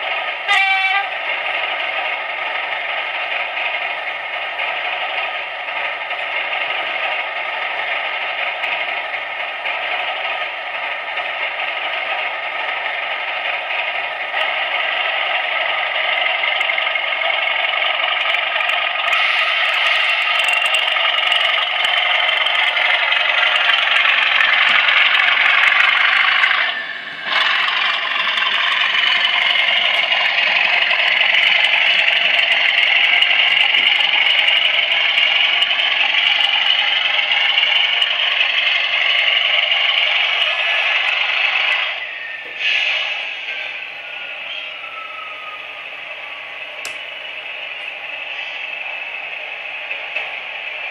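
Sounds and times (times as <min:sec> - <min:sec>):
model train diesel engine sound: 0:00.0 - 0:50.9.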